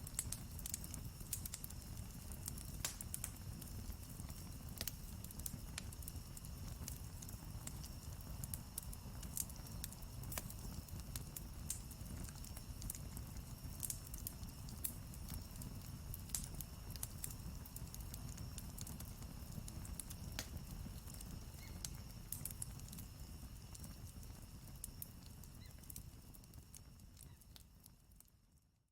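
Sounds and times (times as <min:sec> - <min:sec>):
campfire crackling and popping: 0:00.0 - 0:28.3.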